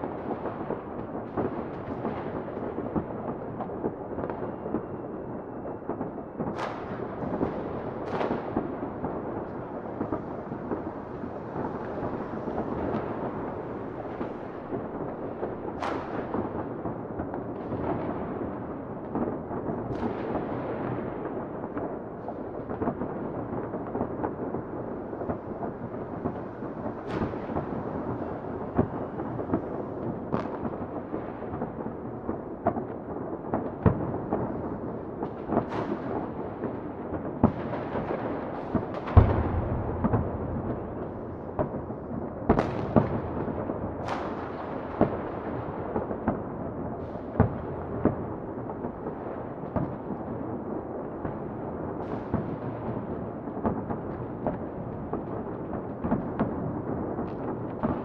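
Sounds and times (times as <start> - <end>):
distant firecrackers crackling: 0.0 - 58.0
firework bangs: 5.8 - 50.6, 51.2 - 58.0.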